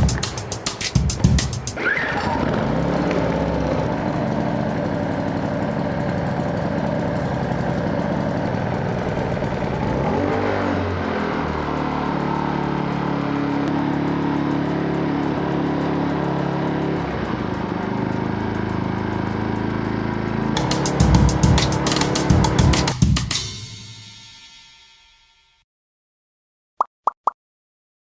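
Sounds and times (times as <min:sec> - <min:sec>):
generator running: 0:00.0 - 0:23.1.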